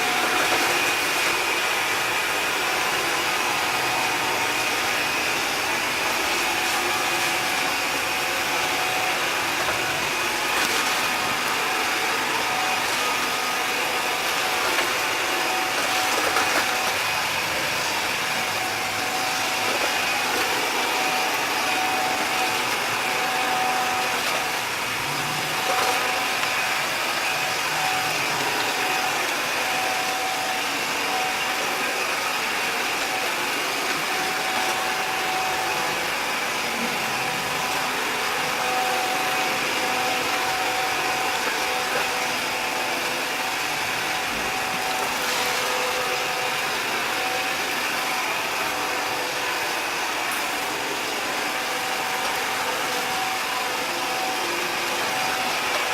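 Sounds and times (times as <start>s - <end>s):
robot vacuum cleaner whirring: 0.0s - 55.9s.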